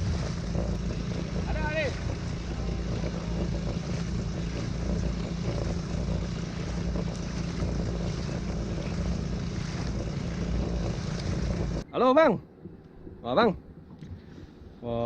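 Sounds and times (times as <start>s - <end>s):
kayak motor humming: 0.0s - 15.0s
wind buffeting microphone: 0.0s - 15.0s.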